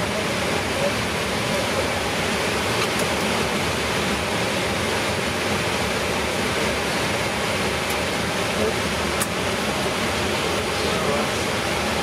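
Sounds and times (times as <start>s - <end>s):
cockpit air-conditioning hiss: 0.0s - 12.0s
jet engines idling: 0.0s - 12.0s.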